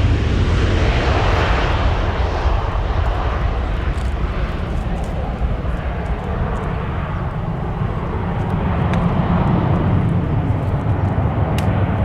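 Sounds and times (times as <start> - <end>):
jet engine rumbling: 0.0 - 12.0.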